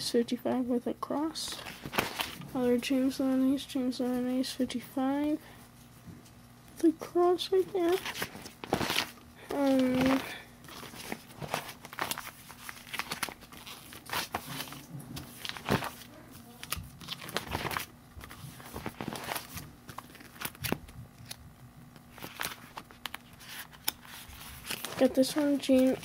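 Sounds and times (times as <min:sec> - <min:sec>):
plastic sleeves crinkling: 0:01.4 - 0:04.3, 0:06.8 - 0:26.0.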